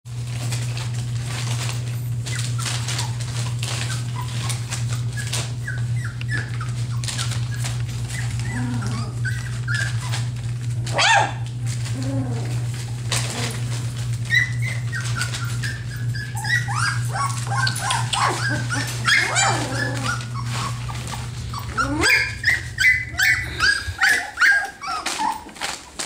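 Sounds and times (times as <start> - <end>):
paws scratching newspaper: 0.1 - 26.0
steady low hum: 0.2 - 26.0
puppies squeaking and whimpering: 1.3 - 26.0
puppy yelp: 2.0 - 12.6, 13.2 - 26.0.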